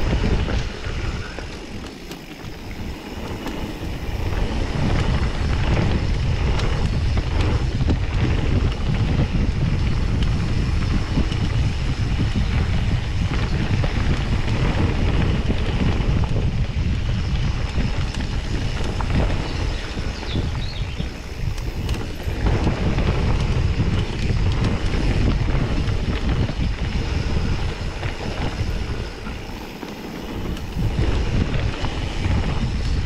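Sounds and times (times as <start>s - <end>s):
bike knocks and rattles: 0.0s - 33.0s
tyres rolling over dirt: 0.0s - 33.0s
wind buffeting microphone: 0.0s - 33.0s.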